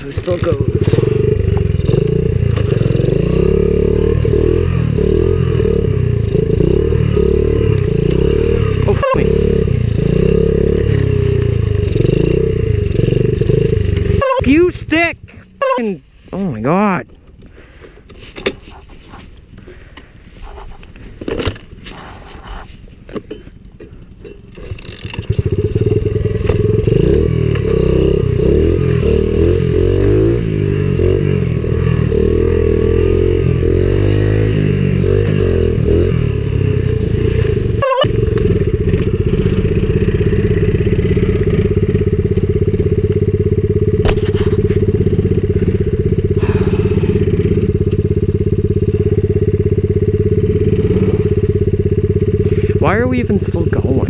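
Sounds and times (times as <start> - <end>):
small motorbike engine revving: 0.0 - 16.0, 24.5 - 54.0.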